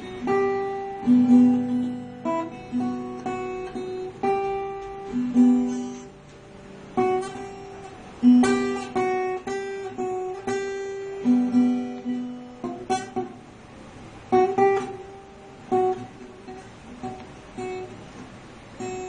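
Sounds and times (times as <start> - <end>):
acoustic guitar plucked slowly: 0.0 - 19.0.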